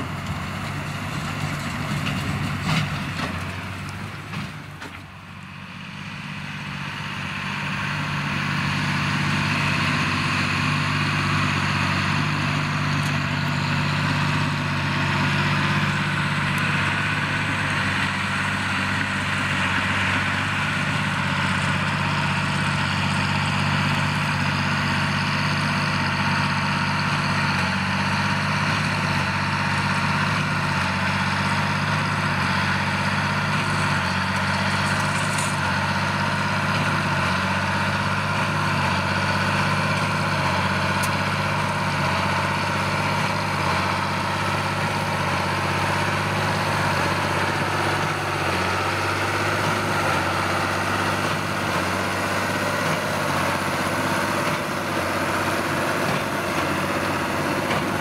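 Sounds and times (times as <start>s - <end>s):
baler working: 0.0s - 58.0s
tractor diesel engine under load: 0.0s - 58.0s.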